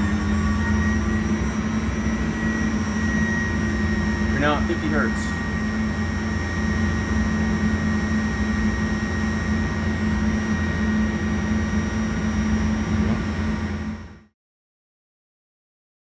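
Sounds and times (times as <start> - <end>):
low hum: 0.0 - 14.3
wind tunnel fan rushing air: 1.2 - 14.2.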